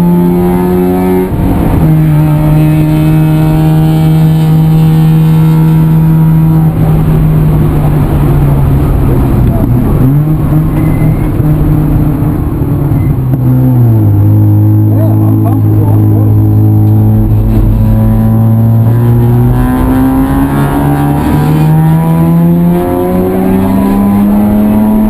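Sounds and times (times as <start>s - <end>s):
vehicle engine running: 1.3s - 25.0s.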